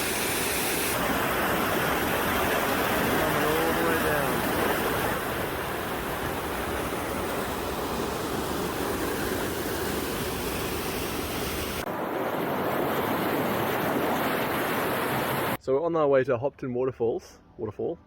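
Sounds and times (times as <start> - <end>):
waterfall rushing: 0.0 - 15.6.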